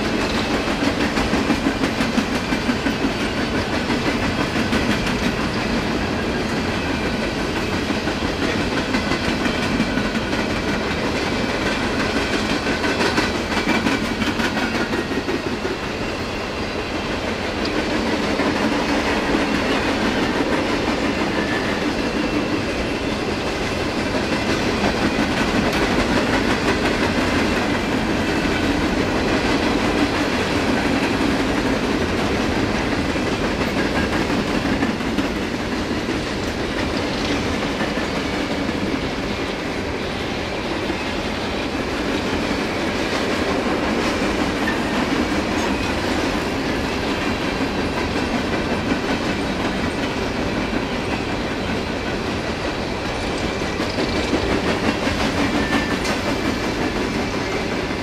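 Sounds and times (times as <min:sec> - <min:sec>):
wheels clicking over rail joints: 0:00.0 - 0:16.0, 0:17.0 - 0:39.8, 0:40.8 - 0:58.0
freight train rolling past: 0:00.0 - 0:58.0.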